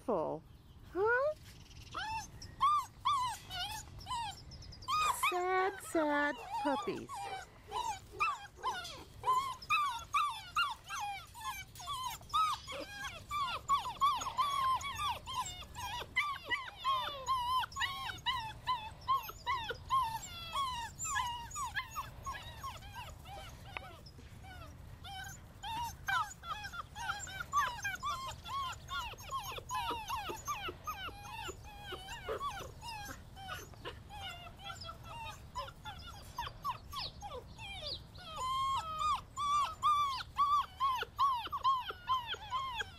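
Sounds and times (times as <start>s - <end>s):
puppies whimpering and whining: 0.6s - 42.9s.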